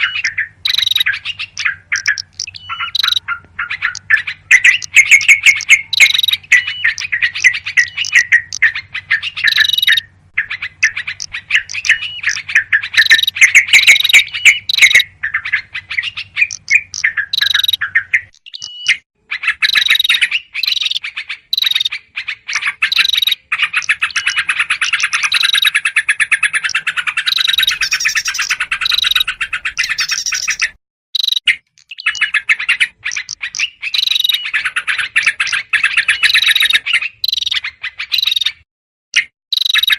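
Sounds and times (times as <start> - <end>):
birds chattering: 0.0 - 38.6.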